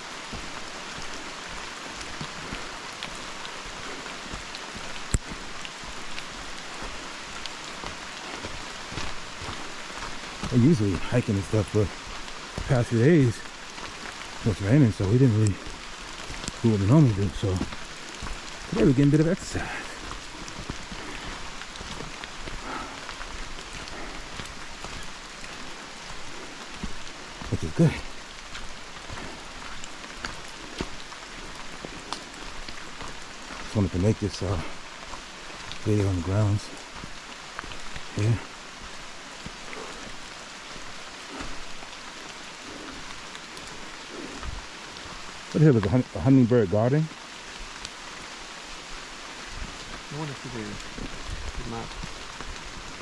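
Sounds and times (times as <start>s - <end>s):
rain falling on foliage: 0.0s - 53.0s.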